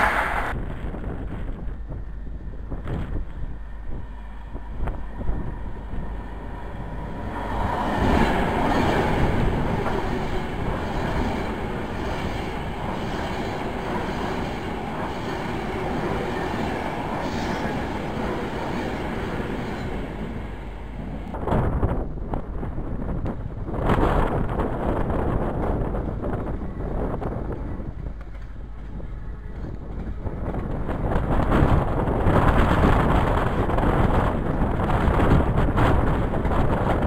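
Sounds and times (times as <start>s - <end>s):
train wheels rushing on rail: 0.0s - 37.0s.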